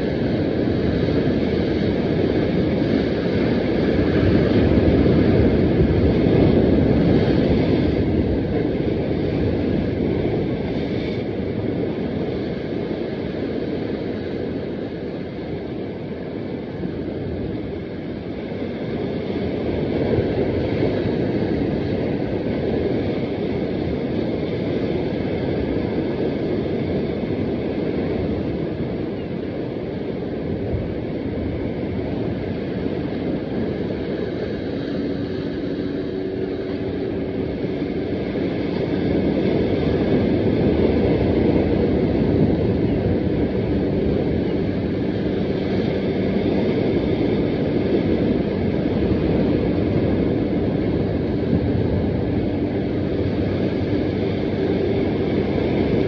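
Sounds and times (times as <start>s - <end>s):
sea surf washing against rocks: 0.0s - 56.0s
wind buffeting microphone: 0.0s - 56.0s.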